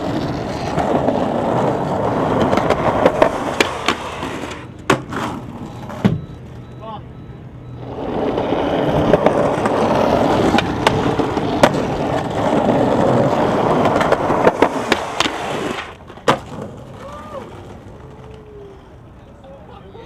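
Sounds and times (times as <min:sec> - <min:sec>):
skateboard clacks: 0:00.0 - 0:06.2, 0:07.8 - 0:18.5
skateboard wheels rolling on concrete: 0:00.0 - 0:06.6, 0:07.7 - 0:20.0.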